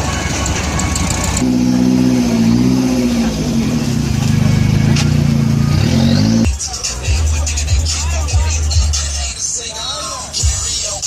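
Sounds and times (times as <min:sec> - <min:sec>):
car engine exhaust drone: 0:00.0 - 0:09.3.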